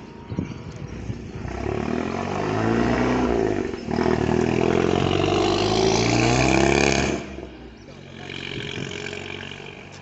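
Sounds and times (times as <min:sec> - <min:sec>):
car engine accelerating: 0:00.9 - 0:10.0.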